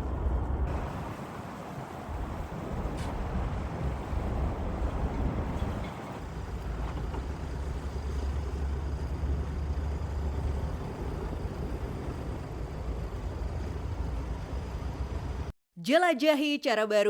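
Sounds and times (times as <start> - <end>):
low rumble of road vehicles: 0.0 - 15.5.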